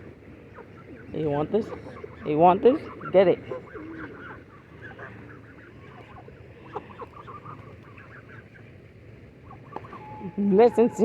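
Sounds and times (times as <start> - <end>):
ducks and geese squeaky calls: 0.0 - 11.0.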